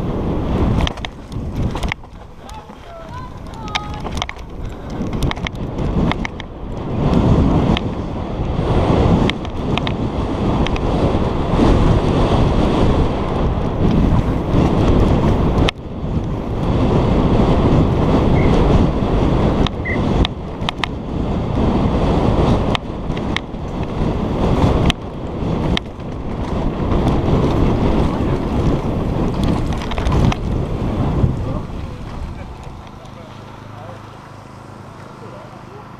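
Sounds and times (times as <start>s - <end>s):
bike knocking and rattling: 0.0s - 35.9s
tyres rumbling on dirt trail: 0.0s - 35.9s
wind buffeting microphone: 0.0s - 35.9s.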